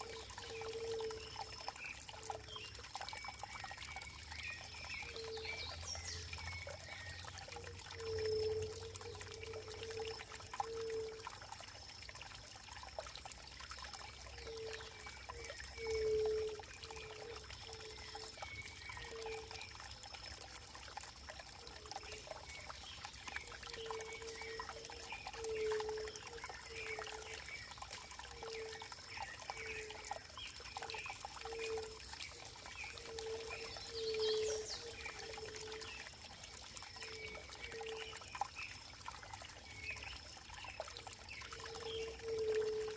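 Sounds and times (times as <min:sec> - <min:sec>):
water trickling and pouring: 0:00.0 - 0:42.9.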